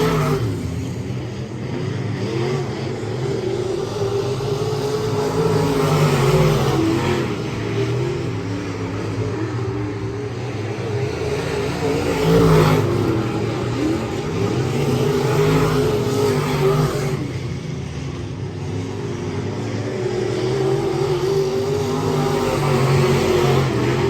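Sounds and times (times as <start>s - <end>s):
race car engines: 0.0s - 24.0s.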